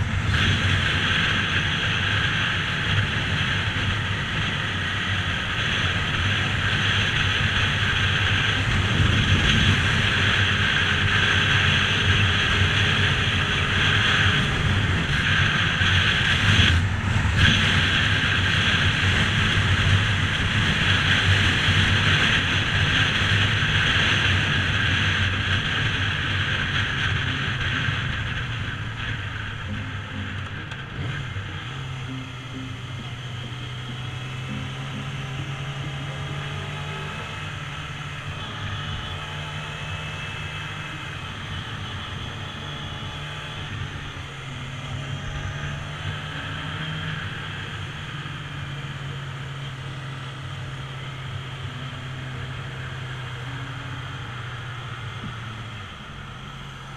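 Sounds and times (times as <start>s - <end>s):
wind over microphone: 0.0s - 49.1s
motorcycle engine running: 0.0s - 56.9s.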